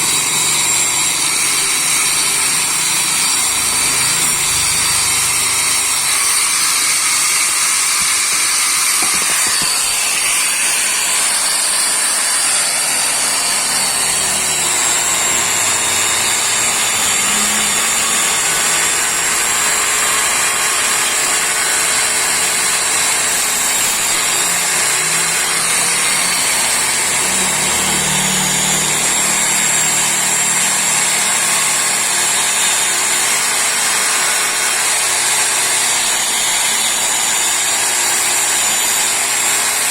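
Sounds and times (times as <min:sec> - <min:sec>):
angle grinder wire brush on metal: 0:00.0 - 0:39.9.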